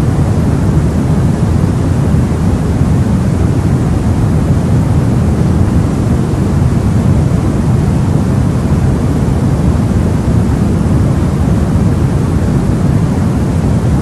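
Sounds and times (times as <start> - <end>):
deep rushing white noise: 0.0 - 14.0.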